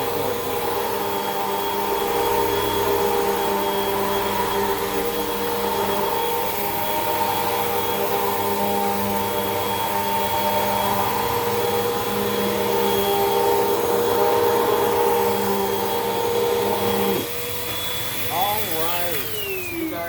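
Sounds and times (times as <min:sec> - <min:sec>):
vacuum cleaner running on carpet: 0:00.0 - 0:20.0.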